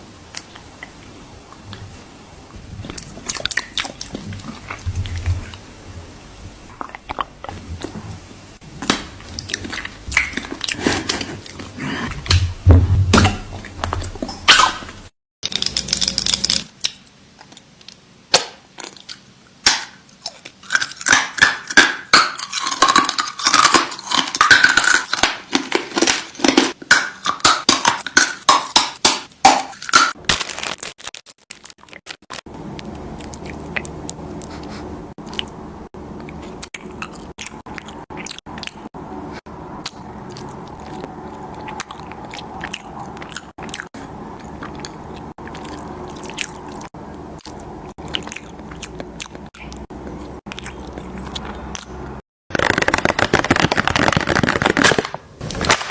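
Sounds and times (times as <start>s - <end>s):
steady background hum: 0.0s - 30.4s, 32.4s - 55.9s
crunchy chewing: 2.8s - 5.6s, 8.8s - 12.4s, 15.5s - 35.6s, 36.2s - 55.9s.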